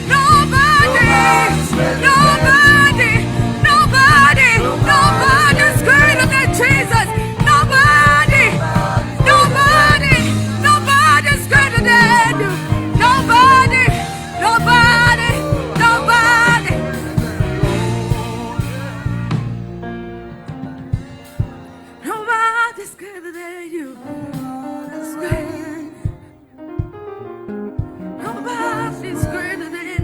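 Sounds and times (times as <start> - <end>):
person singing gospel song: 0.0 - 19.8, 20.7 - 26.5, 28.1 - 30.0
band accompaniment: 0.0 - 22.6, 24.0 - 30.0.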